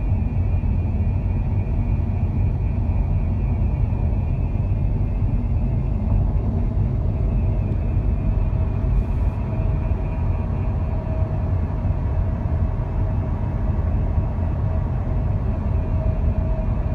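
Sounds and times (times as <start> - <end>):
faint steady whine: 0.0 - 16.9.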